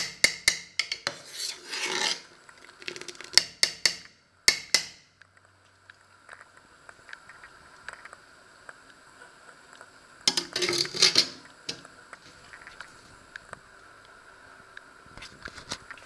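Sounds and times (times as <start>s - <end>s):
pot simmering with pops: 2.2s - 16.0s.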